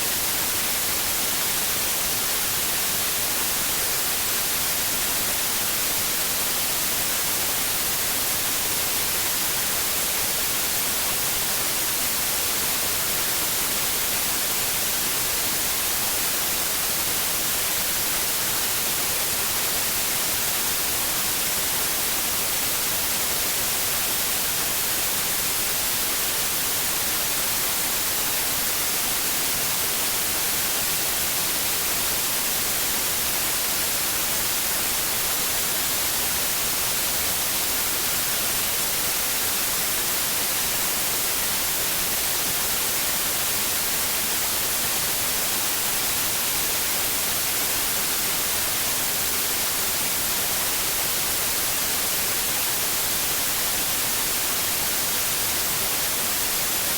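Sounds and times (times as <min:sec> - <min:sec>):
steady white noise: 0:00.0 - 0:56.9.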